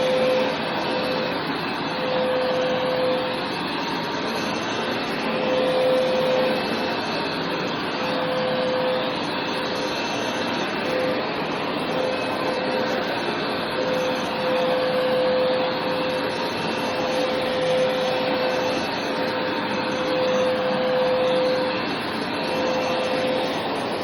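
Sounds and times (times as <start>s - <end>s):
carpet cleaner motor whine: 0.0s - 24.0s.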